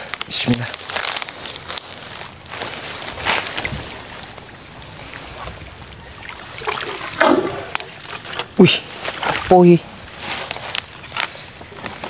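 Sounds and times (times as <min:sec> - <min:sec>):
water and mud sloshing: 0:00.7 - 0:12.0.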